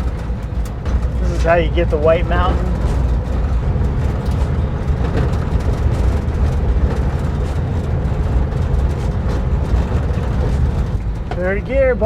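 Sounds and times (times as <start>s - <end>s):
body knocks and rattles: 0.0s - 12.0s
van engine running under load: 0.0s - 12.0s.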